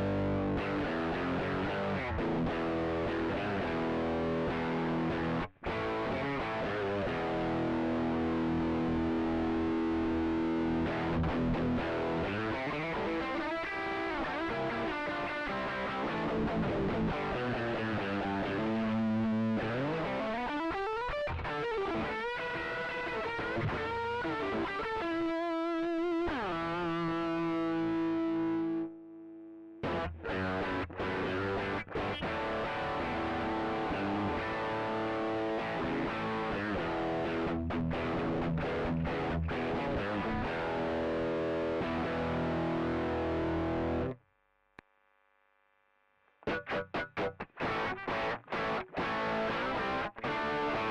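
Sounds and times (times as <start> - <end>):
overdriven electric guitar: 0.0 - 44.2, 46.3 - 50.9.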